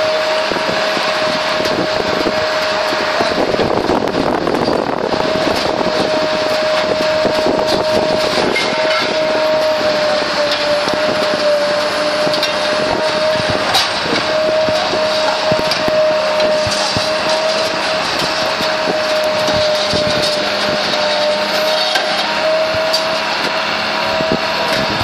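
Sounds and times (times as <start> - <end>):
knocks and clanks: 0.0 - 25.0
machinery whining: 0.0 - 25.0.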